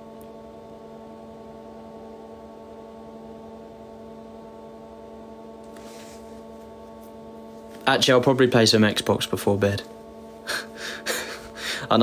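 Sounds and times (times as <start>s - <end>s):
steady hum of held tones: 0.0s - 12.0s.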